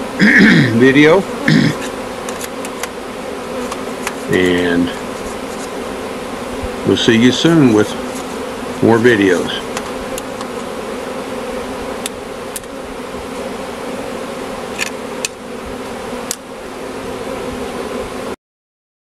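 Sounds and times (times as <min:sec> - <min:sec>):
bees buzzing: 0:00.0 - 0:18.4.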